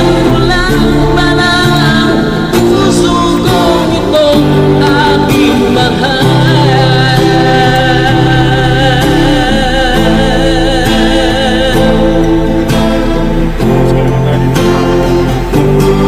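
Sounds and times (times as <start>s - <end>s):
ballad music: 0.0s - 16.0s.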